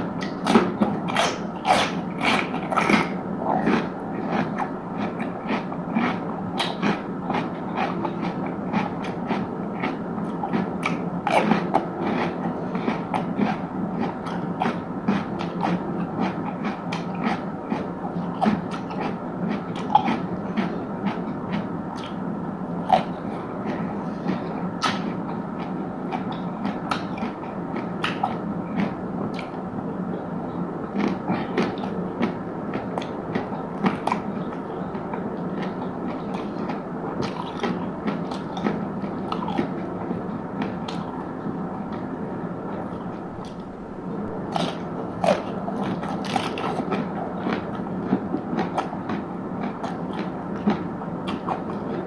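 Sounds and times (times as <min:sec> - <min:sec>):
crunchy food chewing: 0:00.0 - 0:29.7, 0:30.9 - 0:42.1, 0:42.7 - 0:52.0.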